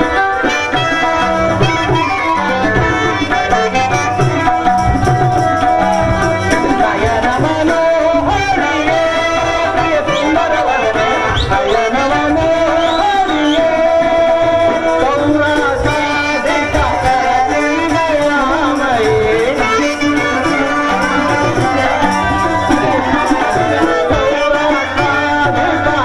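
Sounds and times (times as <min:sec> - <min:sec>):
tabla playing: 0:00.0 - 0:26.0.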